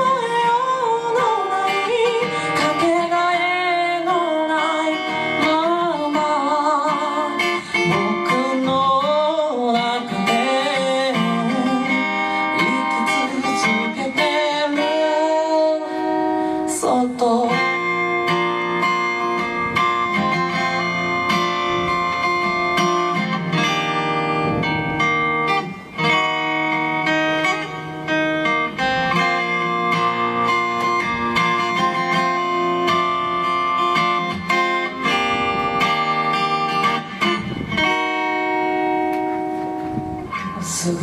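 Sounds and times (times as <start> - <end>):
guitar playing: 0.0 - 41.0.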